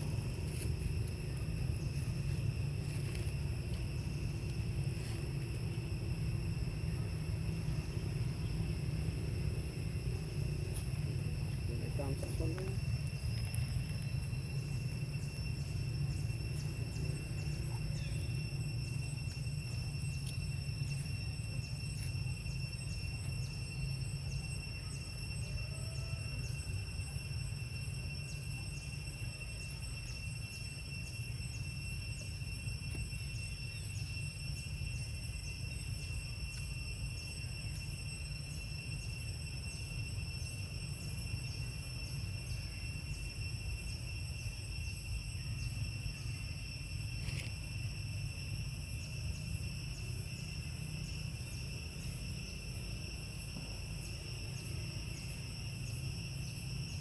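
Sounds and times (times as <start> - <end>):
constant low rumble: 0.0 - 57.0
high-pitched insect chorus: 0.0 - 57.0.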